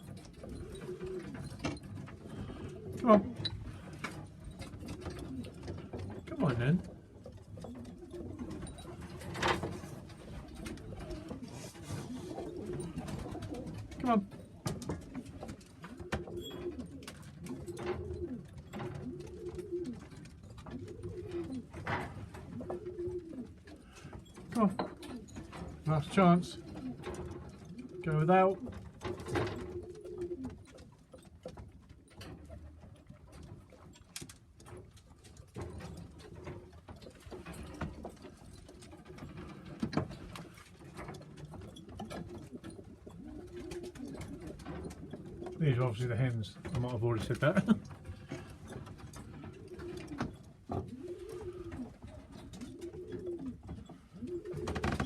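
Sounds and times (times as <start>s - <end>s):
clicks and taps of birds moving: 0.0s - 55.0s
pigeons cooing: 0.0s - 55.0s.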